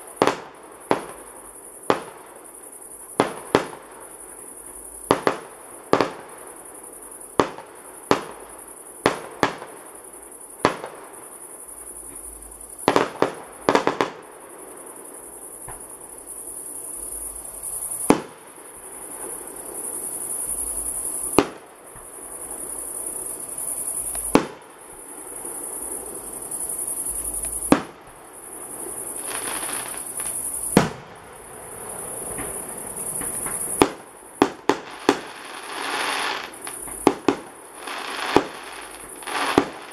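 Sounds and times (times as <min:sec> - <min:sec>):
fireworks bursting with bangs: 0:00.0 - 0:06.6, 0:07.3 - 0:39.9.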